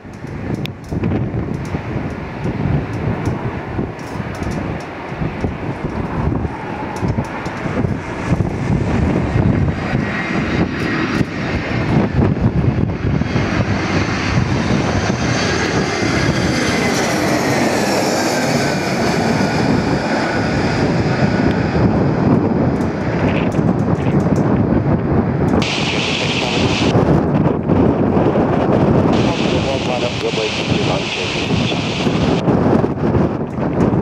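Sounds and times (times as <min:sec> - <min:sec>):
jet engines rumbling and whining: 0:00.0 - 0:34.0
wind buffeting microphone: 0:00.0 - 0:34.0.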